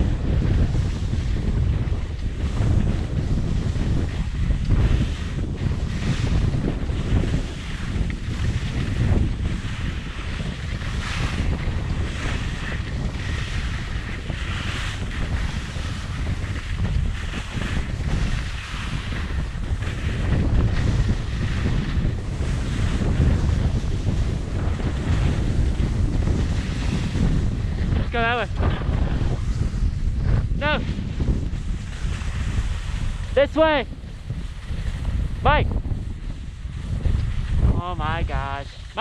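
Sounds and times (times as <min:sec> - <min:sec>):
skis scraping snow: 0:00.0 - 0:39.0
wind rumble on microphone: 0:00.0 - 0:39.0.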